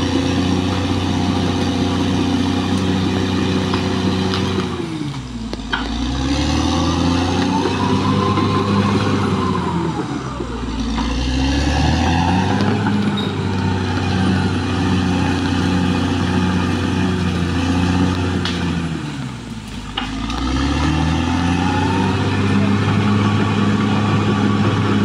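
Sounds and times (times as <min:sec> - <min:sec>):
bulldozer diesel engine under load: 0:00.0 - 0:25.0.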